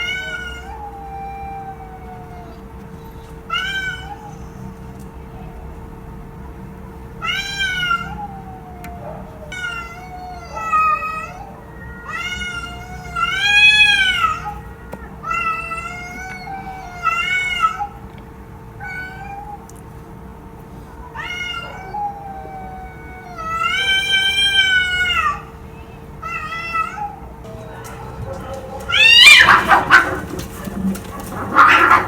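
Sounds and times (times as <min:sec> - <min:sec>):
cat meowing: 0:00.0 - 0:02.7, 0:03.5 - 0:04.6, 0:07.2 - 0:18.0, 0:18.8 - 0:19.7, 0:20.9 - 0:25.6, 0:26.2 - 0:32.0.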